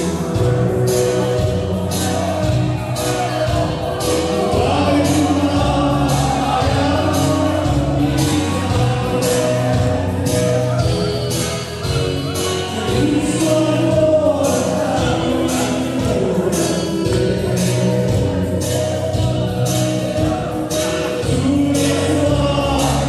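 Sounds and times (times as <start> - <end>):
amplified band music: 0.0 - 23.0
man singing through microphone: 0.0 - 23.0.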